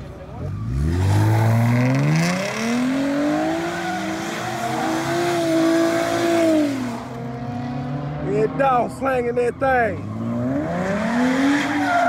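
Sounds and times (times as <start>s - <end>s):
car engine revving: 0.0s - 9.1s, 9.9s - 12.0s.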